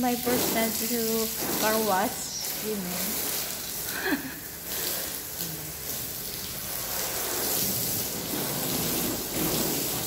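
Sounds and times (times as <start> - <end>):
water spraying from garden hose: 0.0 - 10.0.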